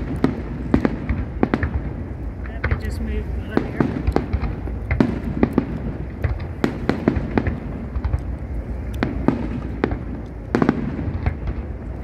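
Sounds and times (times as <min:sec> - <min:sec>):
fireworks bangs and cracks: 0:00.0 - 0:12.0
steady low rumble: 0:00.0 - 0:12.0.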